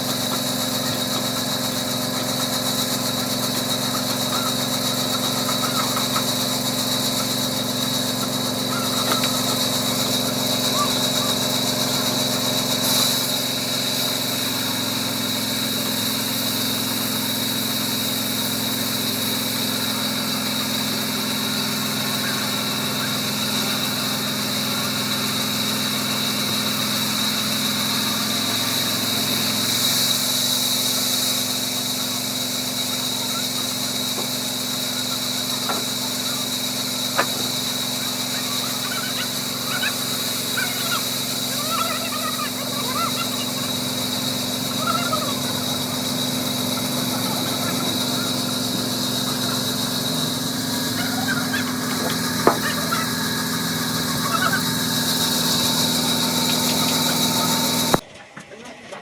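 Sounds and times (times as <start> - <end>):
loud hiss: 0.0 - 58.0
sawmill machinery whining: 0.0 - 59.0.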